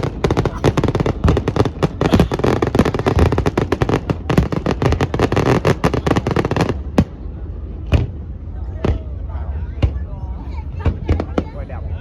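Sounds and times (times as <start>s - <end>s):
fireworks bangs and crackles: 0.0s - 9.2s, 10.7s - 11.6s.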